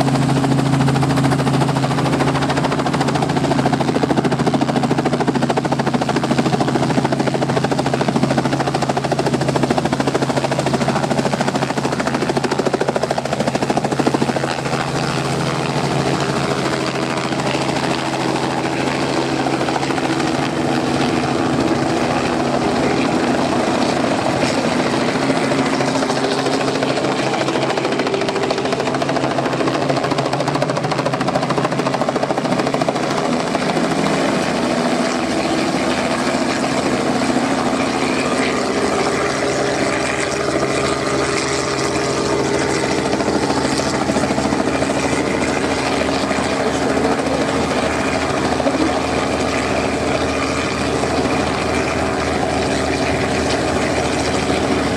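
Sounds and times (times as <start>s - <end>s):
helicopter engine and rotor: 0.0s - 54.9s.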